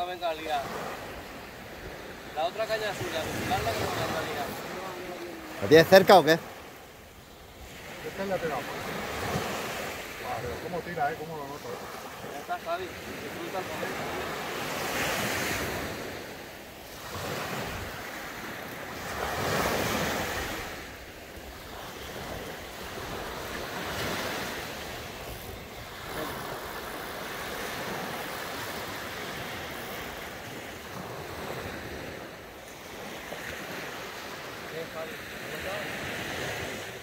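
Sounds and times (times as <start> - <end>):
small surf waves washing: 0.0 - 37.0.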